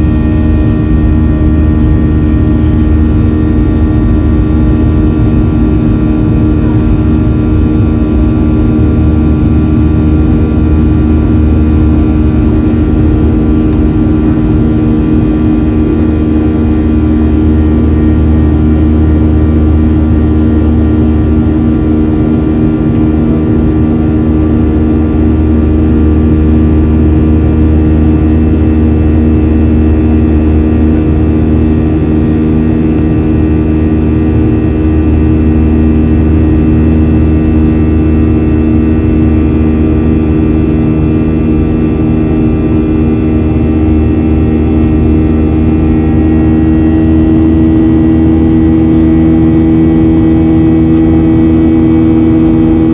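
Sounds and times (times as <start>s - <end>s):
jet engine drone in cabin: 0.0s - 52.9s.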